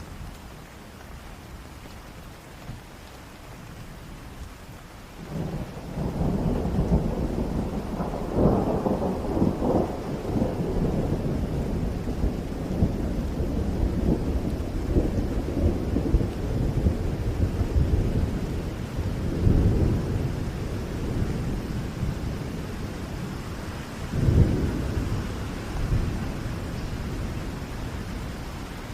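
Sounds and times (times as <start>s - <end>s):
heavy rain: 0.0s - 28.9s
rolling thunder: 5.2s - 28.9s.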